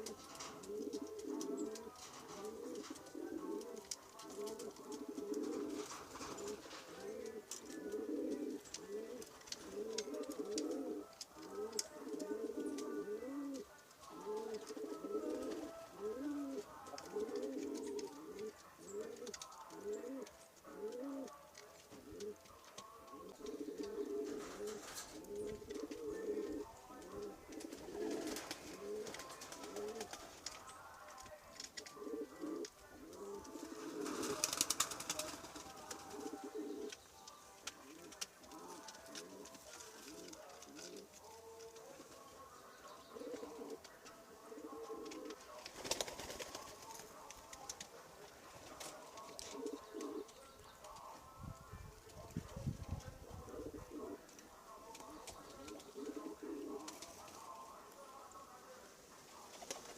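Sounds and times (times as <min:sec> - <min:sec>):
pigeons cooing: 0:00.0 - 0:51.2, 0:52.0 - 0:58.5.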